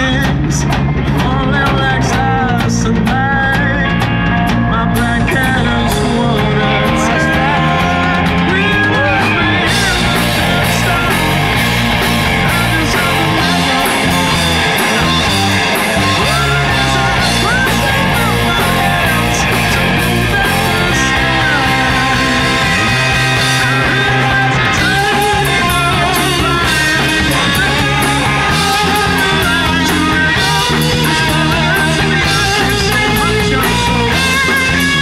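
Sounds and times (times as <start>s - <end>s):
live rock band playing: 0.0s - 35.0s
man singing: 0.0s - 35.0s.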